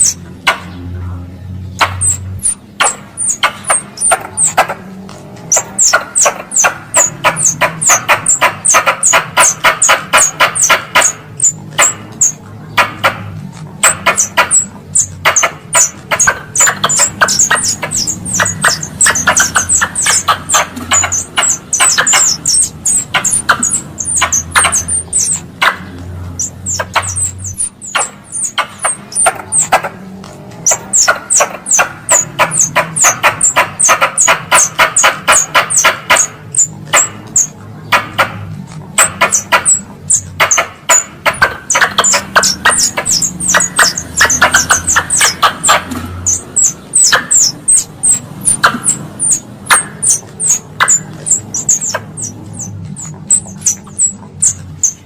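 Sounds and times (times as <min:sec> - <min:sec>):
squirrel chattering: 0:00.0 - 0:01.0, 0:01.7 - 0:55.0.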